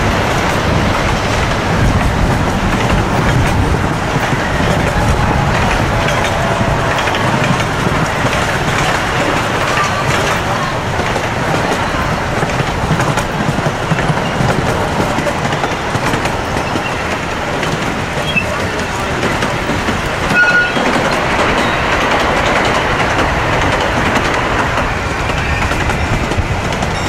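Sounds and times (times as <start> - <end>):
ride train rumbling on track: 0.0 - 27.0.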